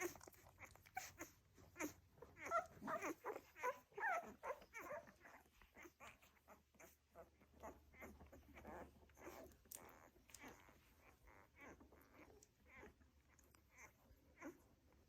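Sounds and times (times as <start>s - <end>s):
puppies whimpering and squeaking: 0.0s - 15.0s.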